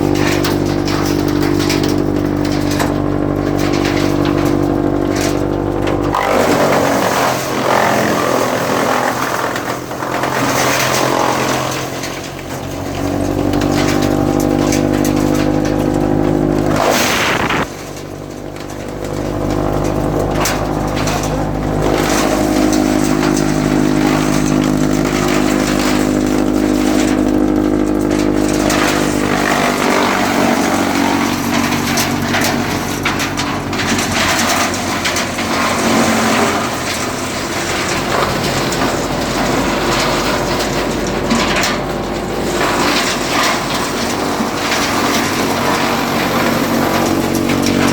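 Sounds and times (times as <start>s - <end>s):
wood chipper running: 0.0s - 47.9s.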